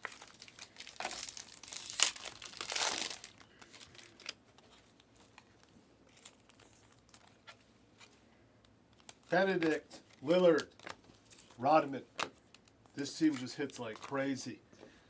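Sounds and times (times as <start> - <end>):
plastic packaging crinkling: 0.0 - 7.6, 9.0 - 14.3.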